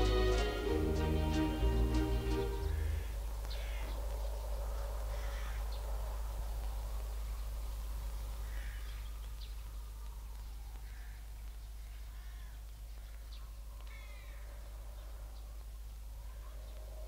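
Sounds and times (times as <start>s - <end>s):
short bird calls: 0.0s - 16.9s
low steady hum: 0.0s - 17.0s.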